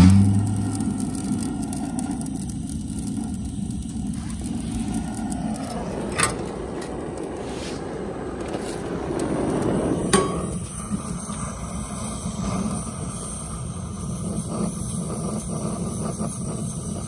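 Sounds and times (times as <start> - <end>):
blow torch flame hissing: 0.0 - 17.0.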